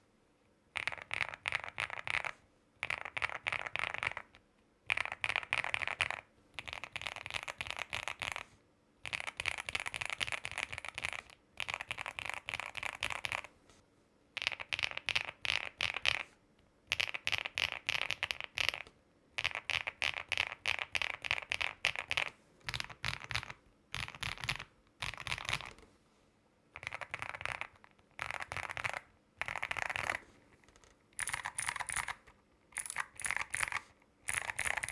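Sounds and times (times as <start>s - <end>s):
mechanical keyboard typing: 0.8s - 13.5s, 14.4s - 16.3s, 16.9s - 25.8s, 26.8s - 34.9s.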